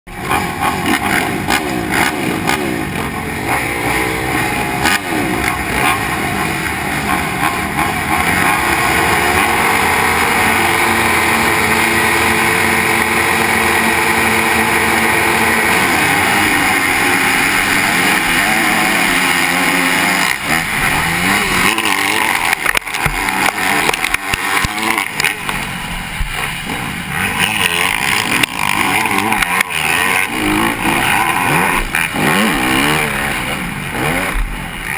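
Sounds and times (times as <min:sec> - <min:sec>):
motocross bikes revving: 0:00.1 - 0:34.9
motorbikes accelerating: 0:00.1 - 0:34.9.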